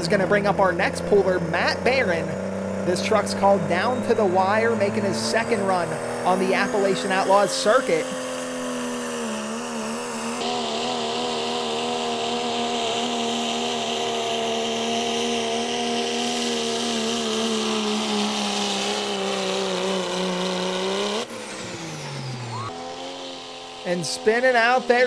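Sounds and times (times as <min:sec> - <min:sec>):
tires spinning: 0:00.0 - 0:25.0
truck diesel engine at full throttle: 0:00.0 - 0:25.0.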